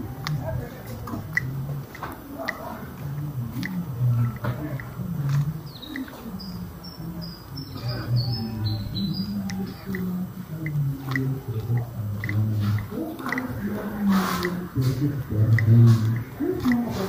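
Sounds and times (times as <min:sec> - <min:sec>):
man talking: 0:00.0 - 0:17.0
songbird chirping: 0:00.0 - 0:17.0.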